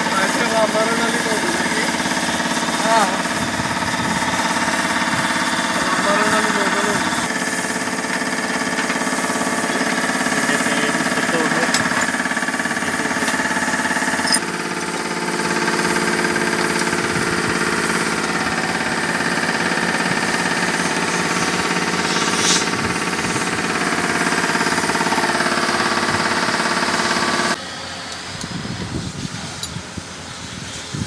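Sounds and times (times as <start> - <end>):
diesel engine running: 0.0 - 28.7.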